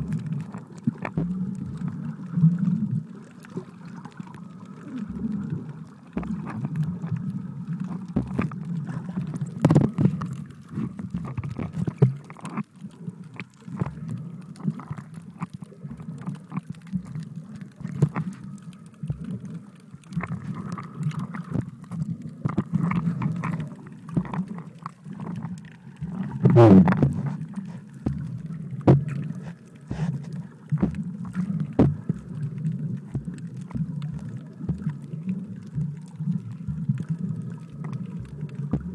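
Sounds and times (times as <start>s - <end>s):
underwater clicks and knocks: 0.0s - 38.9s
underwater rumble of moving water: 0.0s - 38.9s.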